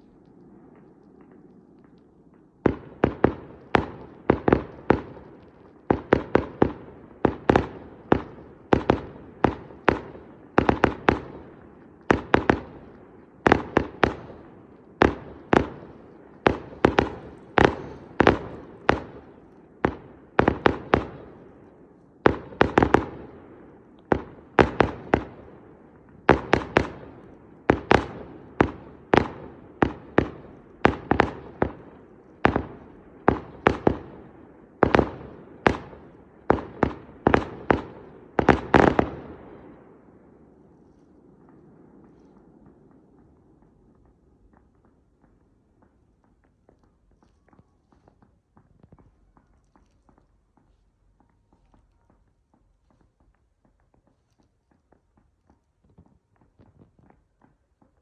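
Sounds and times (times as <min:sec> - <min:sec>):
fireworks bursting: 0:00.0 - 0:50.4.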